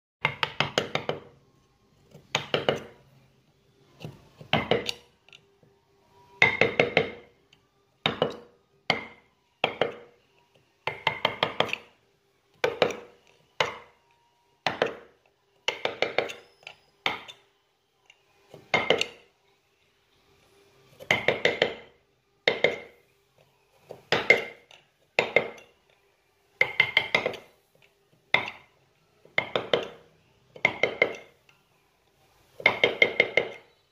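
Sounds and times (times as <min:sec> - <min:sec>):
mallet tapping chisel: 0:00.2 - 0:01.4, 0:02.0 - 0:03.1, 0:03.9 - 0:05.5, 0:06.1 - 0:19.4, 0:21.0 - 0:23.1, 0:23.9 - 0:31.6, 0:32.5 - 0:33.9.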